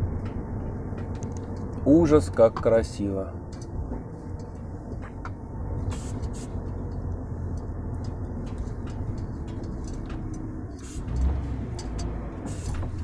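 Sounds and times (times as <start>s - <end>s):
diesel engine hum: 0.0s - 13.0s
light rattles: 0.0s - 13.0s.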